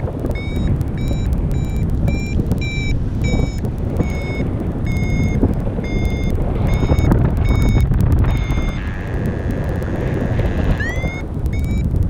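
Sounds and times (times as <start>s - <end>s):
variometer beeping: 0.0s - 12.0s
wind noise on microphone: 0.0s - 12.0s.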